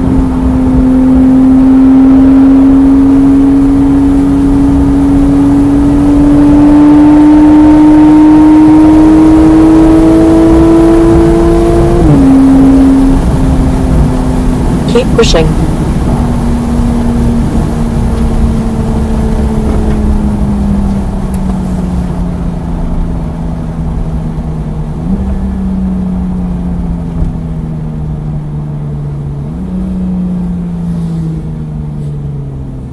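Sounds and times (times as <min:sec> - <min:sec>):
sports car engine: 0:00.0 - 0:32.9.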